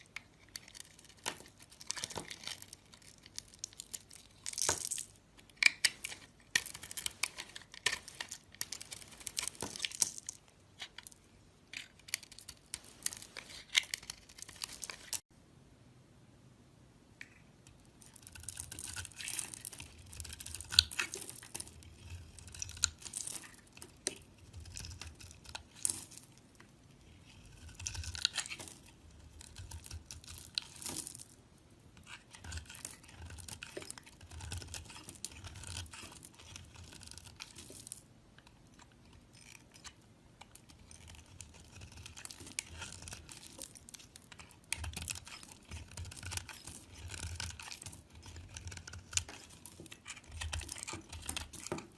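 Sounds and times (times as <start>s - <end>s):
knife scraping soap: 0.0s - 4.7s, 5.4s - 11.1s, 11.7s - 15.3s, 18.0s - 31.0s, 31.9s - 37.8s, 38.4s - 51.9s.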